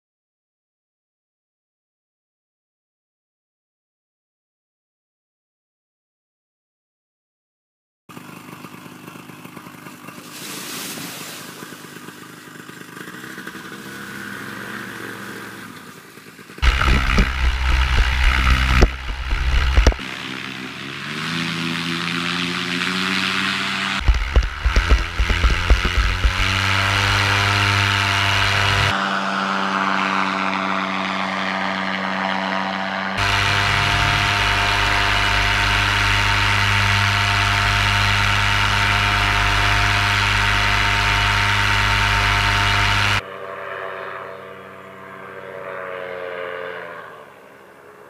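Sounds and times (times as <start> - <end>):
paramotor engine running: 8.1 - 48.0.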